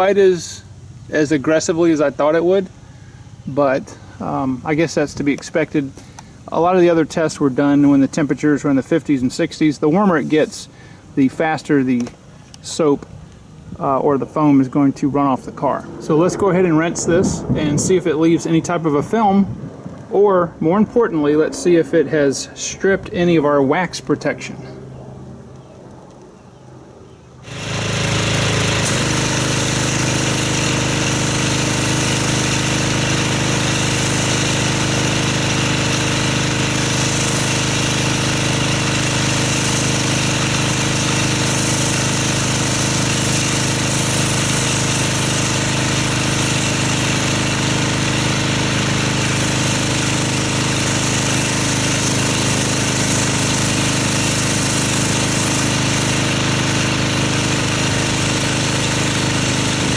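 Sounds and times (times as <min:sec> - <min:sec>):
water jet hissing: 0:00.0 - 0:16.9, 0:27.4 - 0:59.9
pressure washer motor humming: 0:00.0 - 0:24.9, 0:27.4 - 0:59.9.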